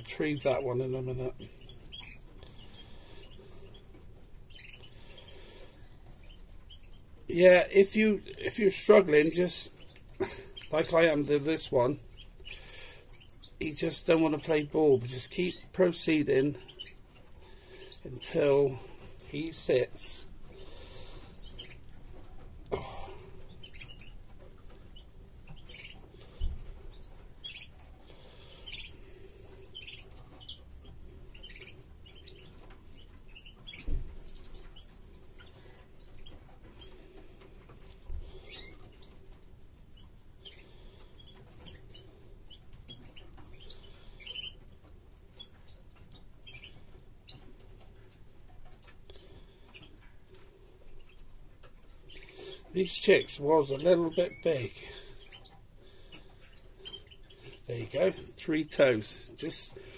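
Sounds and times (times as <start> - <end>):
chicks squeaking: 0.0 - 59.9.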